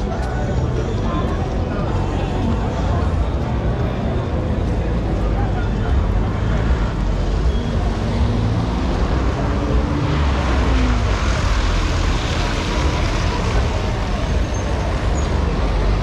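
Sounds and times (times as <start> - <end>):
crowd voices murmuring: 0.0 - 16.0
traffic on wet road: 0.0 - 16.0.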